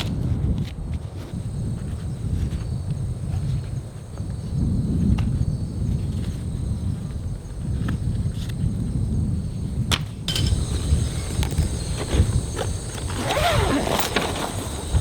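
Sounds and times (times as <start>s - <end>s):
microphone handling rustle: 0.0s - 9.4s, 10.4s - 15.0s
wind buffeting microphone: 0.0s - 15.0s.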